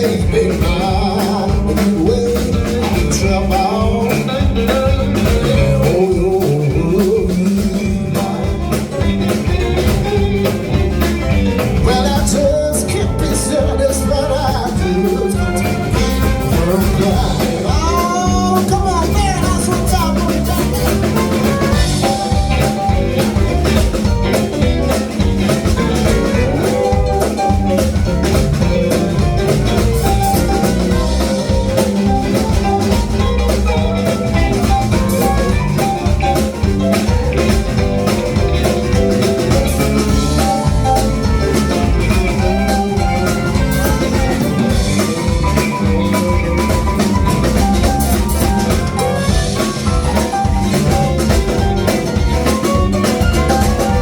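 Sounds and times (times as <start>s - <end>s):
live blues band instrumental: 0.0s - 54.0s.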